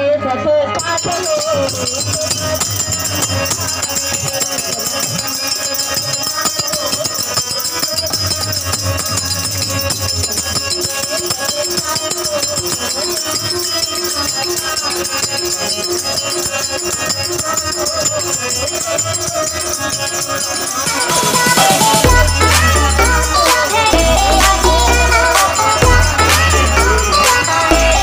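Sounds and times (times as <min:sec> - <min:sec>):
harmonium: 0:00.0 - 0:28.0
person singing: 0:00.0 - 0:28.0
rattling drum beat: 0:00.8 - 0:28.0.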